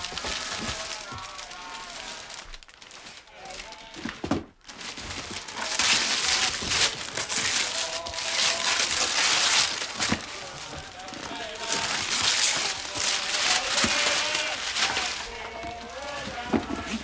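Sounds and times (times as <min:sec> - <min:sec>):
paper crumpling and tearing: 0:00.0 - 0:17.0.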